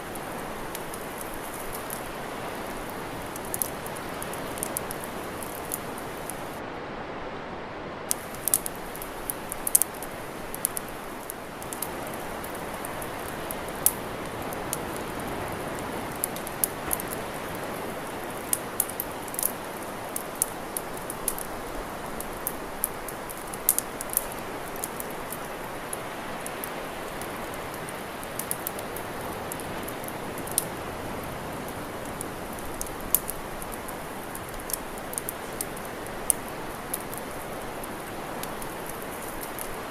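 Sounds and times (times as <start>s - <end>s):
campfire crackling and popping: 0.0s - 6.6s, 8.1s - 39.9s.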